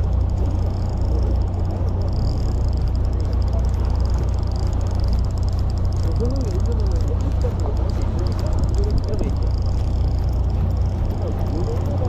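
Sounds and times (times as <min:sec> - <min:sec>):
boat engine droning: 0:00.0 - 0:12.0
fishing reel whirring: 0:00.0 - 0:12.0.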